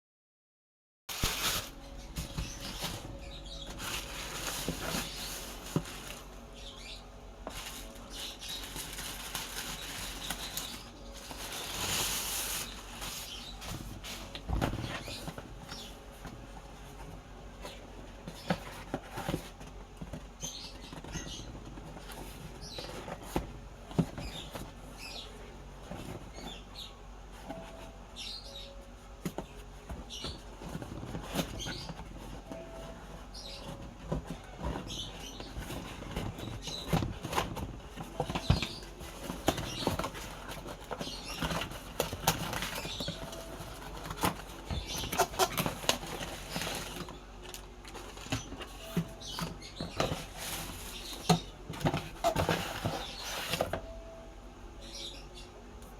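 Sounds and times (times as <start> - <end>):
cardboard and plastic rustling: 1.1 - 54.1.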